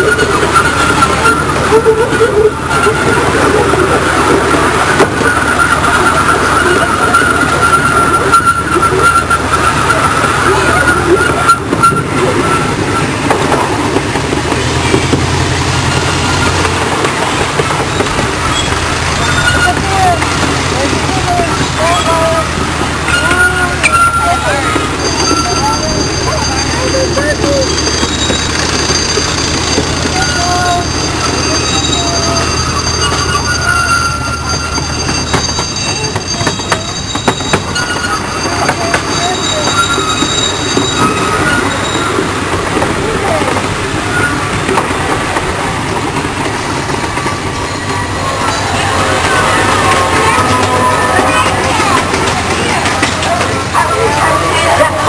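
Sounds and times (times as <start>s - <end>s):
miniature train engine hum: 0.0s - 55.0s
wheels clicking on rail joints: 0.0s - 55.0s.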